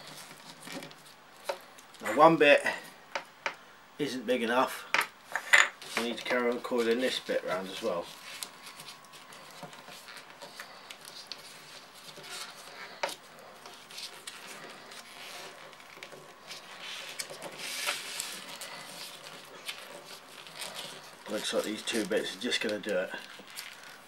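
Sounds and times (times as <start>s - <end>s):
cardboard rustling and scraping: 0.0s - 2.4s, 5.3s - 24.0s.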